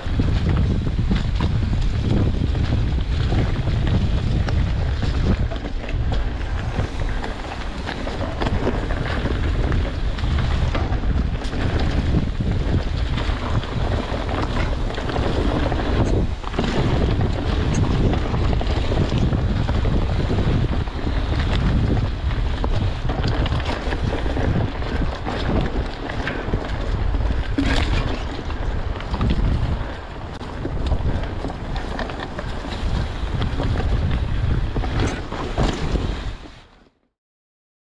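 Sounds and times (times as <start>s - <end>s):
bike clattering over bumps: 0.0s - 36.4s
wind buffeting microphone: 0.0s - 36.7s
bike tyres rolling on dirt: 0.0s - 36.9s.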